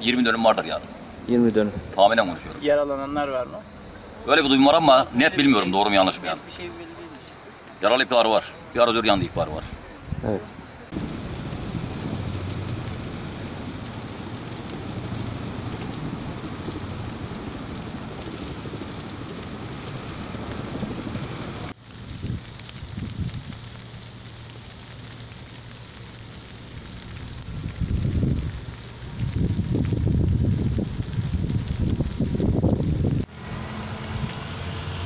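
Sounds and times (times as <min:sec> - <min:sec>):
fire hissing and crackling: 0:00.0 - 0:35.0
low rumbling gusts: 0:00.0 - 0:35.0.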